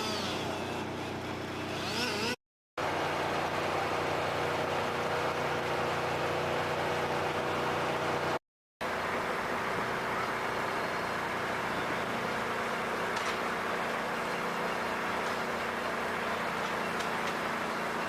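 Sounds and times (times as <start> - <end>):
different steady engine: 0.0 - 18.0
engine running steadily: 0.0 - 18.0.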